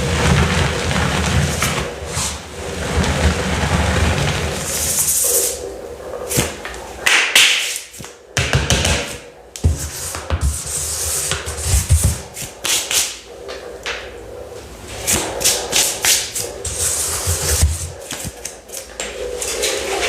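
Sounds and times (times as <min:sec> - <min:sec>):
scratchy hiss: 0:00.0 - 0:08.2, 0:08.9 - 0:20.0.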